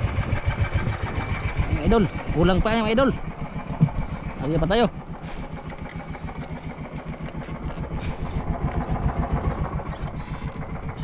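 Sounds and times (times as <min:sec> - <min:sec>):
small boat engine puttering: 0:00.0 - 0:11.0.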